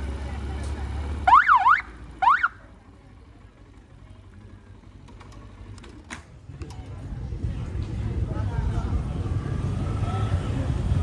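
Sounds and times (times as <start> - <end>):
street background: 0.0 - 11.0.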